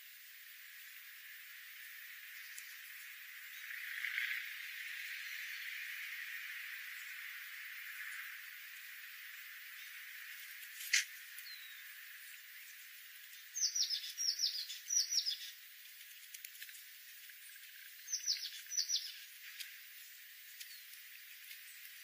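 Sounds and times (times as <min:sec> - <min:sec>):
small bird chirping: 0:01.8 - 0:22.0.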